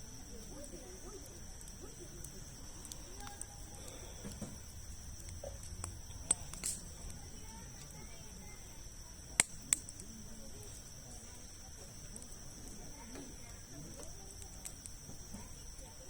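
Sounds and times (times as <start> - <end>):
campfire crackling pops: 0.0 - 16.0.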